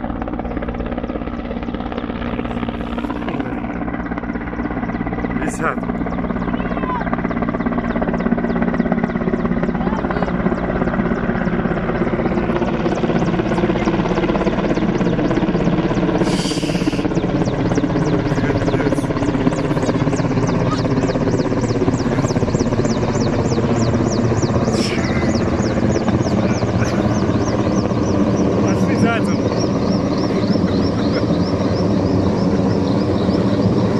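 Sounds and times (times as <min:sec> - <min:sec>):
helicopter flying overhead: 0:00.0 - 0:33.9.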